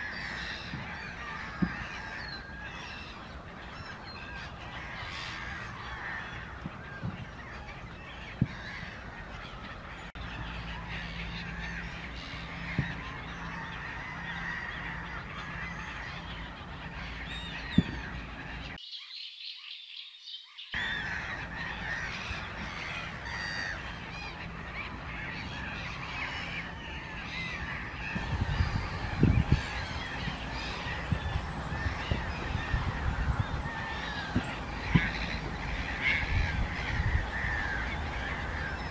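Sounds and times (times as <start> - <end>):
many birds calling: 0.0 - 38.9.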